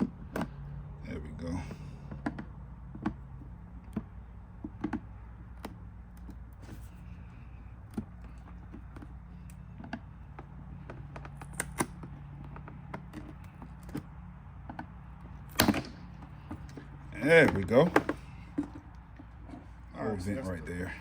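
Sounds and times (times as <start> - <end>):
steady low hum: 0.0 - 21.0
plastic parts clicking and tapping: 2.1 - 19.6.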